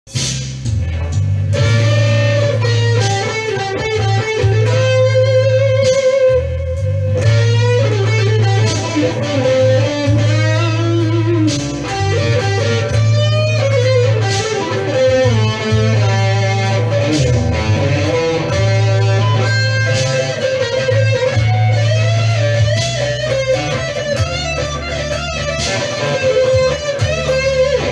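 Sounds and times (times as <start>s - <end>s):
backing bass line: 0.1s - 27.9s
electric guitar blues lead: 0.6s - 27.9s.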